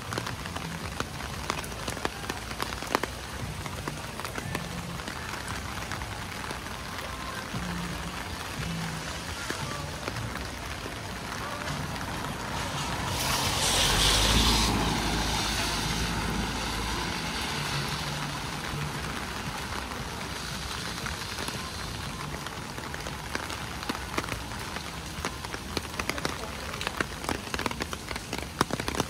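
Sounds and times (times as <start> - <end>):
steady rain: 0.0 - 29.0
vehicle tyres hissing on wet road: 0.0 - 29.0.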